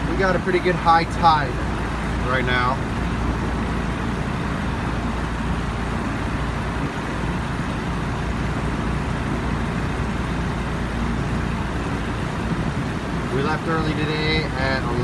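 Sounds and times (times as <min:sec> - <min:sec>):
boat motor droning: 0:00.0 - 0:15.0
water rushing: 0:00.0 - 0:15.0.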